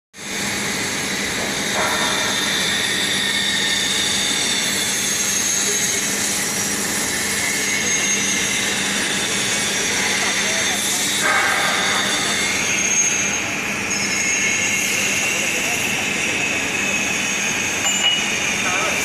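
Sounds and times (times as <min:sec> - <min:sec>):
grinding machine hiss and whine: 0:00.2 - 0:19.0.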